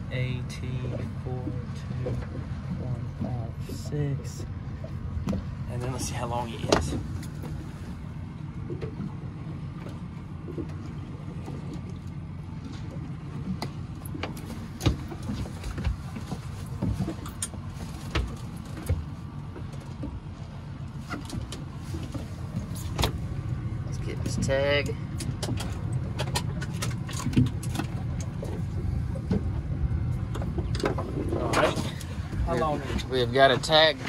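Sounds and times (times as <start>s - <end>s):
boat engine idling: 0.0s - 34.0s.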